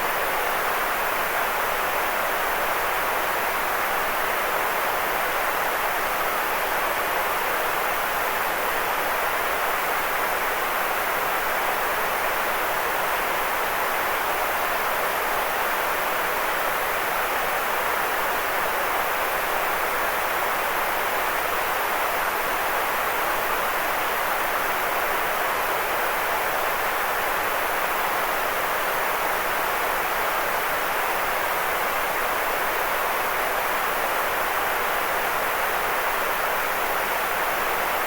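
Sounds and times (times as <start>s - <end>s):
white noise hiss: 0.0s - 38.0s.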